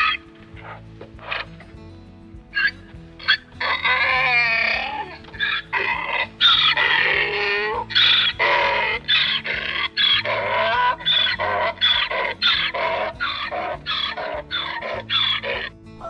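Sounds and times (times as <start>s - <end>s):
donkey braying: 0.0s - 1.7s, 2.5s - 16.0s.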